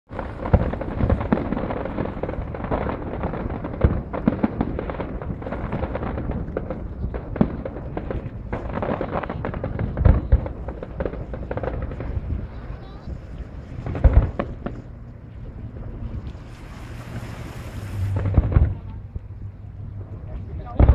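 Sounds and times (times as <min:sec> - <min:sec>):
fireworks booms: 0:00.1 - 0:15.0, 0:16.8 - 0:19.4, 0:20.5 - 0:20.9
fireworks crackling and popping: 0:00.1 - 0:15.1, 0:16.3 - 0:19.3.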